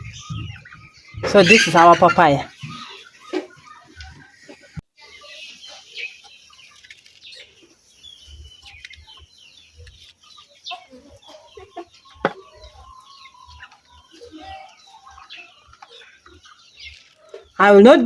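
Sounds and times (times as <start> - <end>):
chickens clucking: 0.0 - 17.9.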